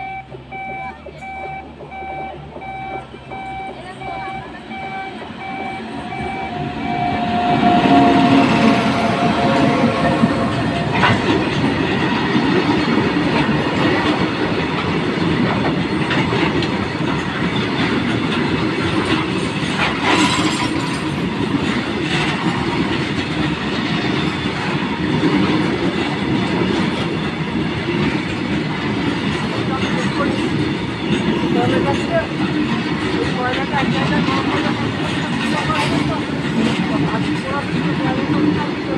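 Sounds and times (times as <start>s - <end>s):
clickety-clack over rail joints: 0.0s - 38.9s
train wheels rumbling on rails: 0.0s - 38.9s.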